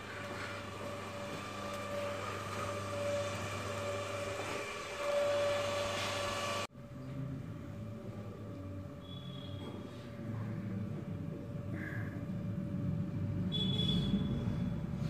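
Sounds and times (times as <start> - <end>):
steady machine hum with tones: 0.0 - 15.0.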